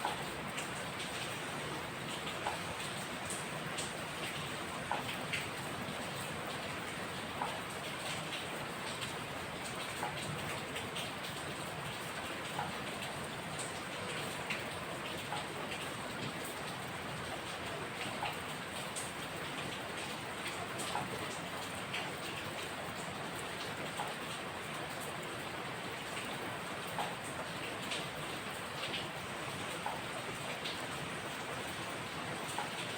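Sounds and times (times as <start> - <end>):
raindrops hitting a surface: 0.0 - 32.9
steady rain falling: 0.0 - 32.9.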